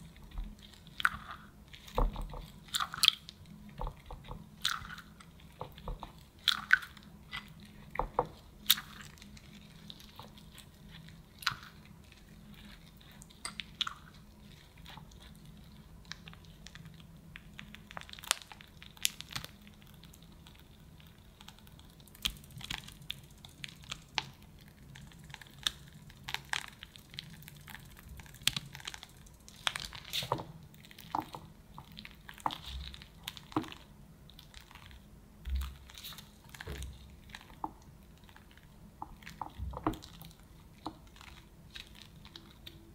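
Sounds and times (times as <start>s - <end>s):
piping bag crinkling: 0.0s - 42.9s.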